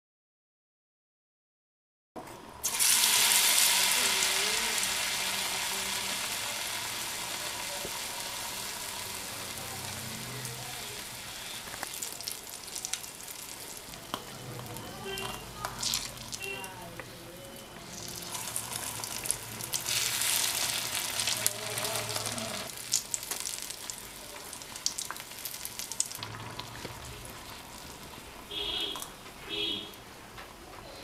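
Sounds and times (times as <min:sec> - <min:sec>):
food sizzling in hot oil: 0:02.6 - 0:29.2.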